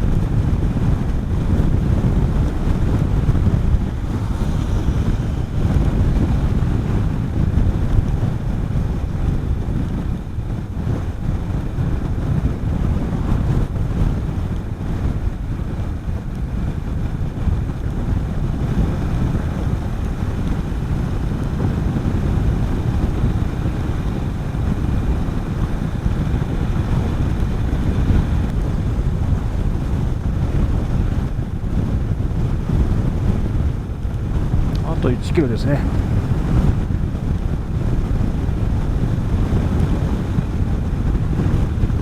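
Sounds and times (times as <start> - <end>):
motorcycle engine rumble: 0.0 - 42.0
wind rushing over microphone: 0.0 - 42.0.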